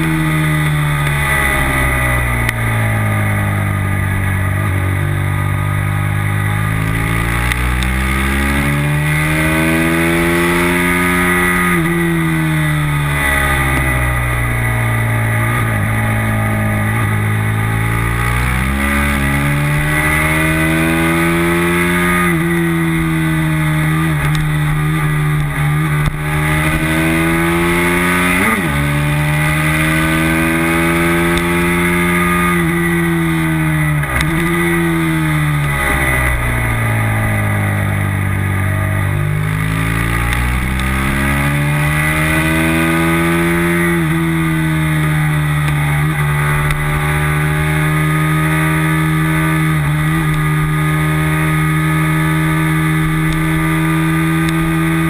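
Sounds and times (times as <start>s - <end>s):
racing motorcycle engine: 0.0s - 55.0s.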